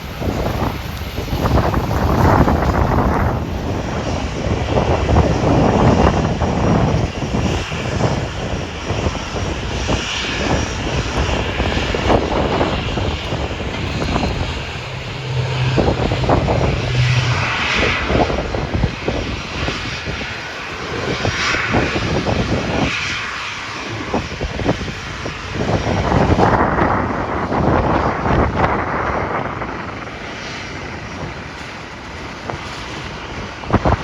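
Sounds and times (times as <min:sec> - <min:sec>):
aircraft engine whine: 0:00.0 - 0:34.0
low engine hum: 0:00.0 - 0:34.0
wind buffeting microphone: 0:00.0 - 0:34.0.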